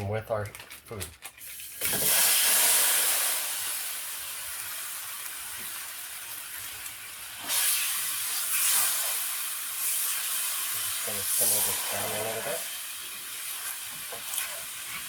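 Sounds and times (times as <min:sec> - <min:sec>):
sauce sizzling in a skillet: 0:01.5 - 0:15.0.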